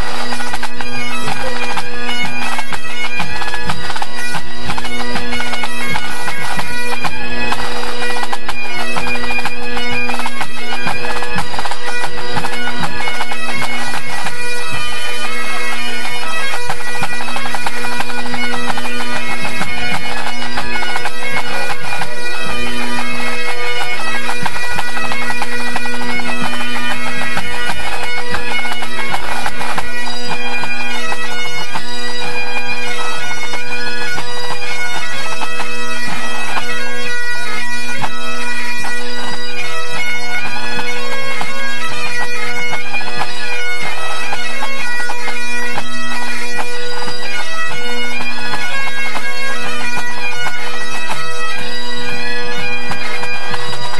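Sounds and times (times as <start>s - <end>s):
bagpipes playing: 0.0s - 53.9s.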